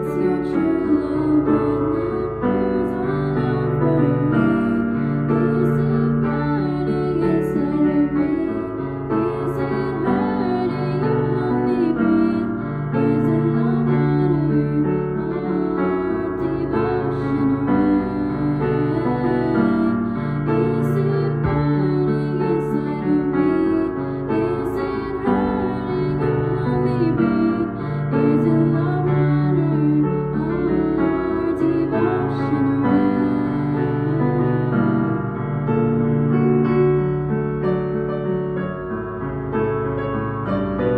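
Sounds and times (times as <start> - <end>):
girl singing: 0.0 - 35.1
digital piano chords: 0.0 - 40.9.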